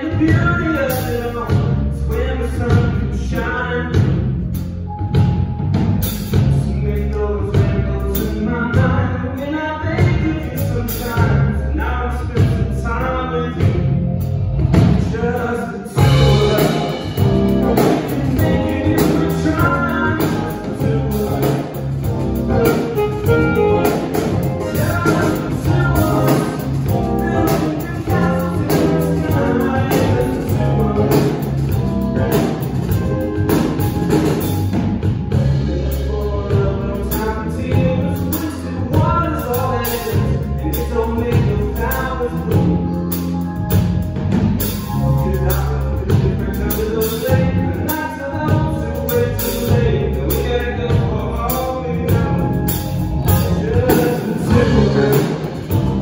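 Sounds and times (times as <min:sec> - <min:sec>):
live soul band playing: 0:00.0 - 0:56.0.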